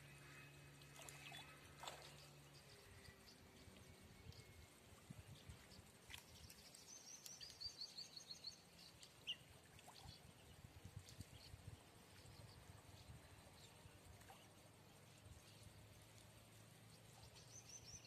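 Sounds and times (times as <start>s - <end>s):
faint low hum: 0.0s - 18.0s
faint outdoor ambience: 0.0s - 18.0s.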